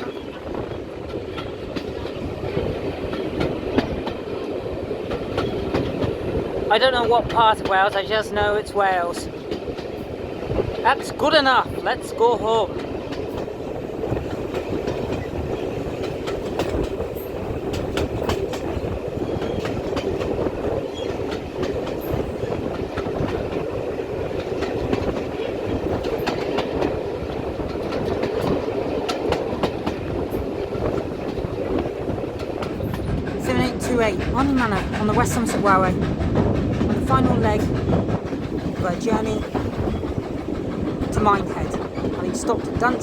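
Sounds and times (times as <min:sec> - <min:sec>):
wheels clacking over rail joints: 0:00.0 - 0:11.8, 0:12.7 - 0:43.0
train carriages rumbling: 0:00.0 - 0:43.0.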